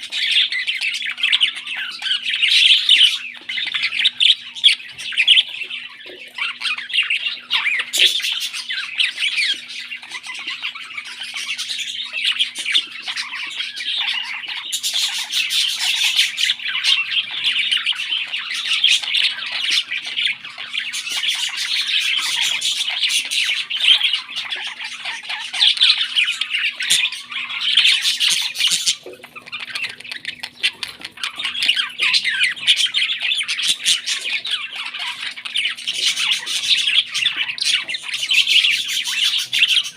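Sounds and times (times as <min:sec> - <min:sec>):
parrot chicks squawking: 0:00.0 - 0:39.9.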